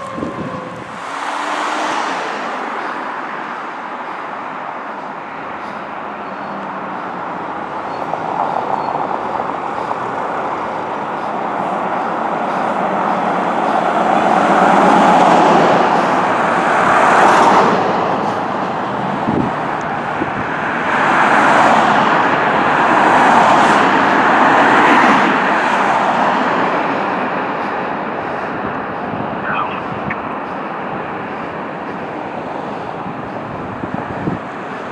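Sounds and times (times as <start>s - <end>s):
fire truck driving by: 0.0s - 34.9s
traffic: 0.0s - 34.9s.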